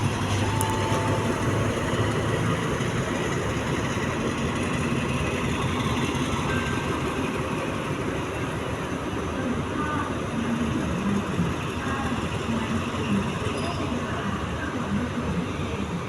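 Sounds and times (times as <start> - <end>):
diesel locomotive engine idling: 0.0 - 16.0.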